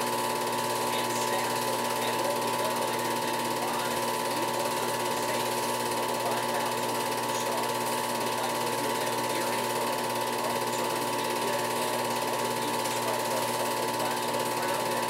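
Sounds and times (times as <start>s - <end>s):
film projector running: 0.0s - 15.0s.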